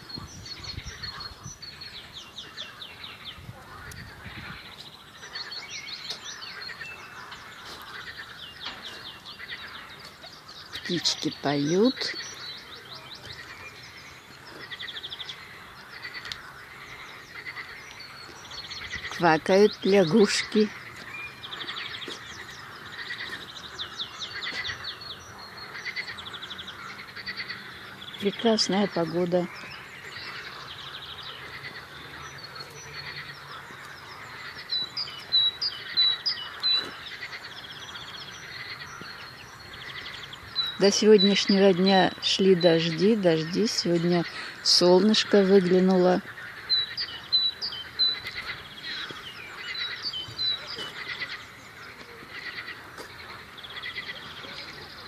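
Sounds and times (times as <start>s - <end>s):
frogs croaking: 0.0s - 55.0s
songbirds singing and chirping: 0.0s - 55.0s.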